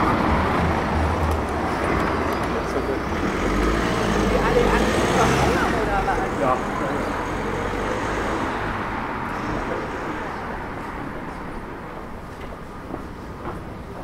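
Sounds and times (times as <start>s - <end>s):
motor vehicle passing: 0.0s - 12.2s.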